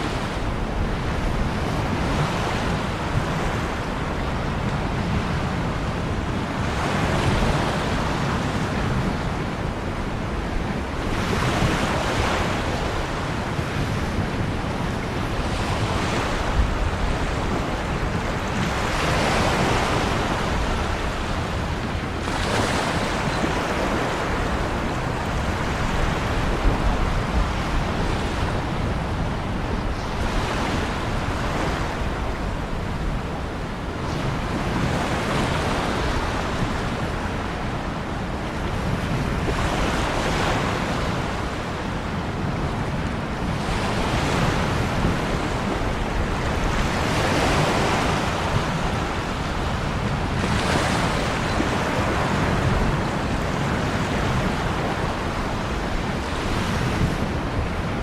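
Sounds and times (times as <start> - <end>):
ocean waves breaking on shore: 0.0 - 58.0
wind rumble on microphone: 0.0 - 58.0.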